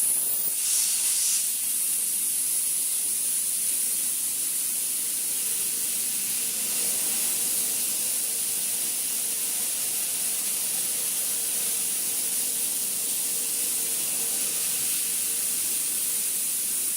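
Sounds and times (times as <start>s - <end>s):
machine high-pitched hiss: 0.0s - 16.9s.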